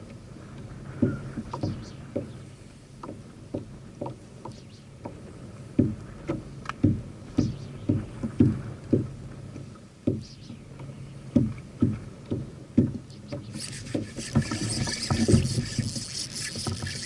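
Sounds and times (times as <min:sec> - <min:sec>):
waves slapping plastic hull: 0:03.0 - 0:17.0.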